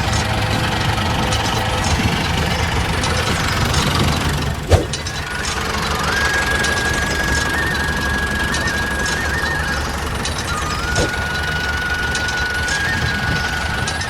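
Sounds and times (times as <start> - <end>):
high steady whine: 0.0 - 14.0
machine running: 0.0 - 14.0.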